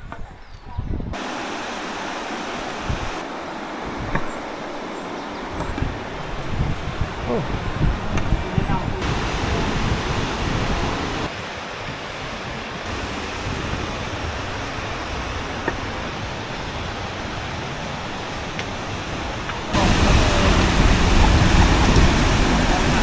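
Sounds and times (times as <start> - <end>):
waterfall rushing: 1.2 - 23.0.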